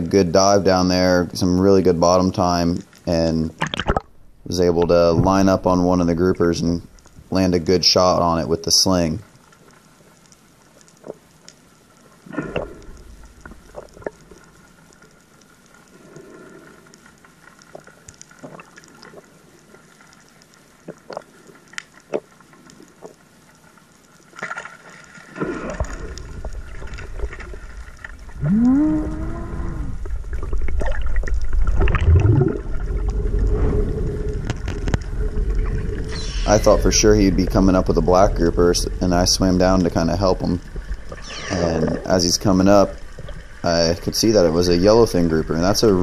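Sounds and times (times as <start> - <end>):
low rumble of moving water: 0.0 - 46.0
sharp underwater clicks and crackles: 2.2 - 46.0.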